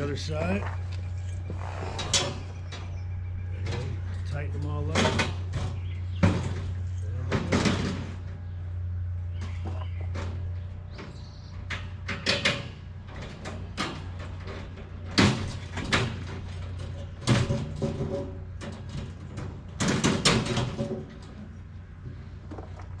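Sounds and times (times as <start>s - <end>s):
metal panels clanking and rattling: 1.9s - 23.0s.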